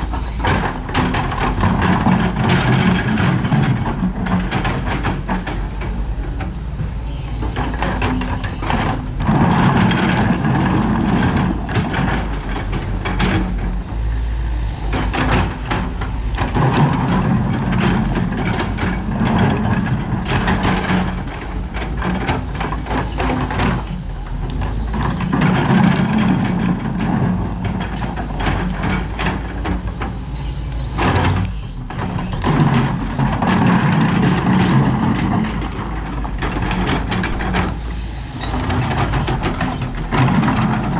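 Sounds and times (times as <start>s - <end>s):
excavator diesel engine under load: 0.0s - 40.9s
knocks and clanks: 0.0s - 40.9s.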